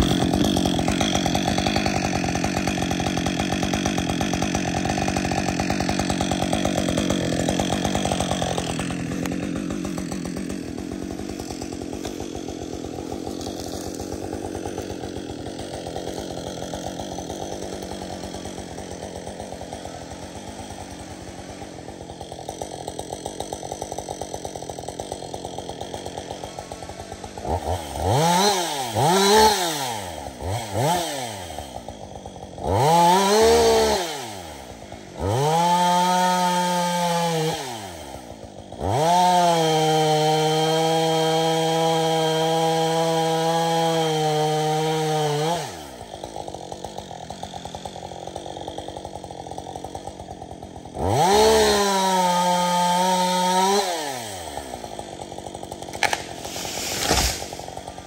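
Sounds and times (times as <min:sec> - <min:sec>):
chainsaw idling: 0:00.0 - 0:58.0
chainsaw revving: 0:00.0 - 0:58.0.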